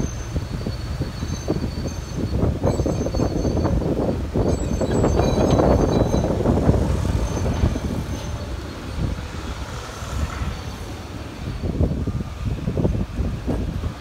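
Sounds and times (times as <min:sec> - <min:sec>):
diesel engines running: 0:00.0 - 0:14.0
wind buffeting microphone: 0:00.0 - 0:14.0.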